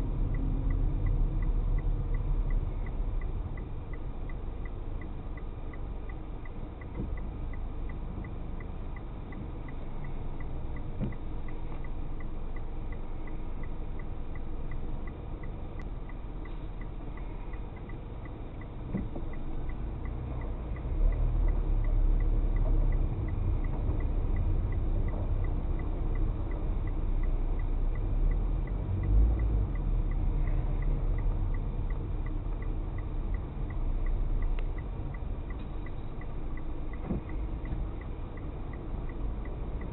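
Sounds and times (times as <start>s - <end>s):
car engine and road rumble: 0.0s - 39.9s
faint regular ticking: 0.0s - 39.9s.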